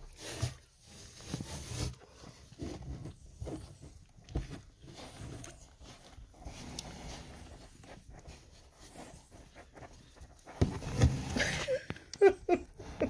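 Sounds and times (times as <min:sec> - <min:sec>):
puppies nursing and stirring: 0:00.0 - 0:11.4.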